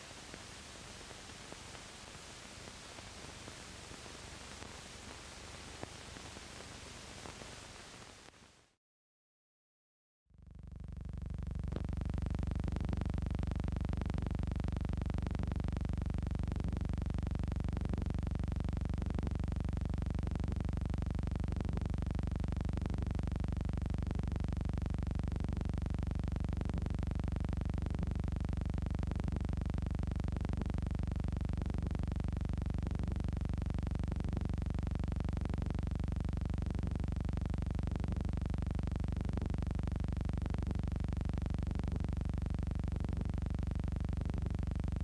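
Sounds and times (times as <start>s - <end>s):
faint crackle: 0.0s - 8.8s, 11.3s - 45.0s
low electrical hum with buzz: 0.0s - 8.8s, 10.4s - 45.0s.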